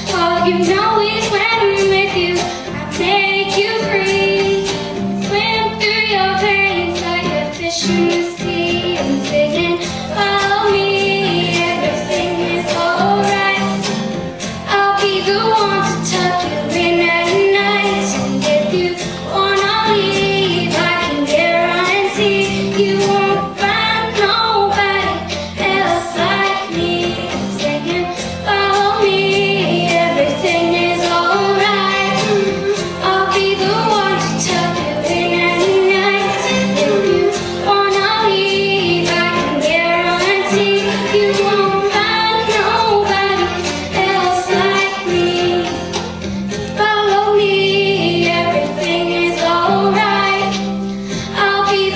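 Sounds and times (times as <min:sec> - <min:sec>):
pop backing track: 0:00.0 - 0:51.9
child singing: 0:00.1 - 0:13.9, 0:14.7 - 0:46.1, 0:46.8 - 0:50.7.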